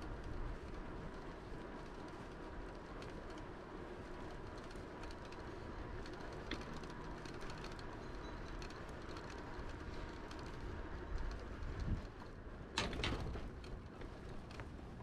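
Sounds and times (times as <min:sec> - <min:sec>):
bike rattles and clicks: 0:00.0 - 0:15.0
bike tyre and wind noise: 0:00.0 - 0:15.0.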